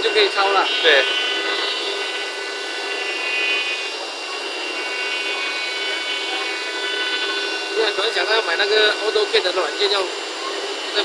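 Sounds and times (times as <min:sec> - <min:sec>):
bit cutting wood hiss: 0:00.0 - 0:11.0
router spindle whine: 0:00.0 - 0:11.0.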